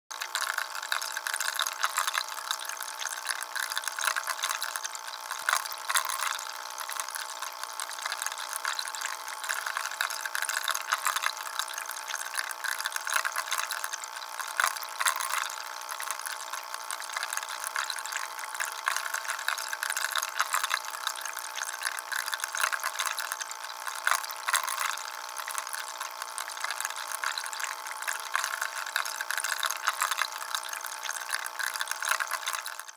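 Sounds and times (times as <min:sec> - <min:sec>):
fountain water trickling onto grate: 0:00.1 - 0:32.9.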